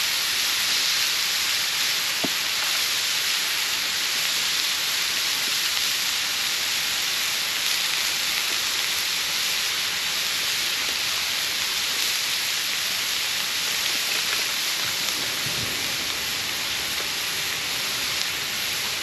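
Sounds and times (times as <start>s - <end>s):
steady hissing noise: 0.0s - 19.0s.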